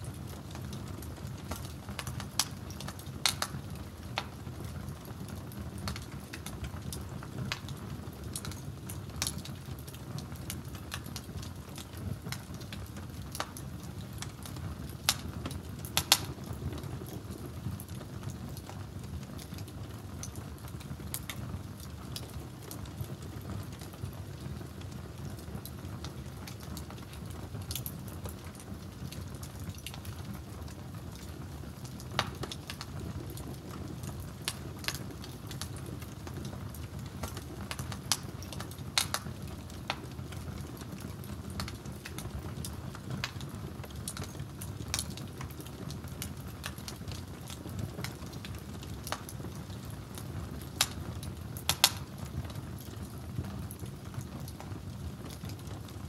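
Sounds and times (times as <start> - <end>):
low rush of flames: 0.0 - 56.0
wood fire crackling: 0.0 - 56.0
sharp pops from fire: 0.3 - 4.6, 5.3 - 24.9, 25.6 - 55.9.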